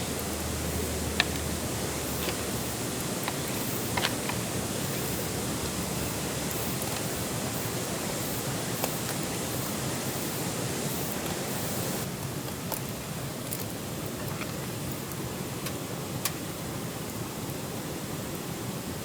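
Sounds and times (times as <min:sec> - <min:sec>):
fire crackles: 0:00.0 - 0:18.6
food sizzling over campfire: 0:00.0 - 0:19.0.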